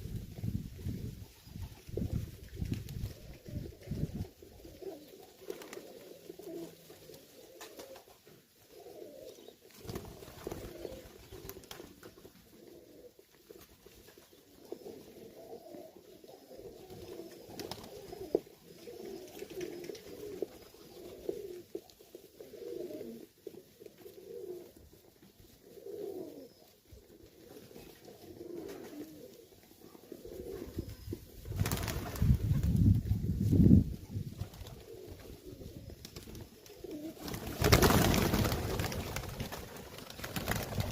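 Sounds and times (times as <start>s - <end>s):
pigeons cooing: 1.5s - 32.5s, 33.2s - 40.9s.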